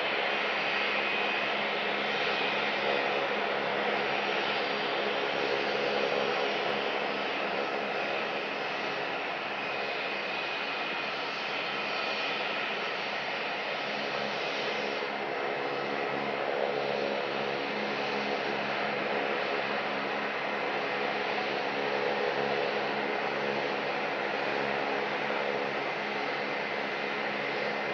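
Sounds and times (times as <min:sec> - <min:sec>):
jet engines whining at taxi power: 0:00.0 - 0:27.9.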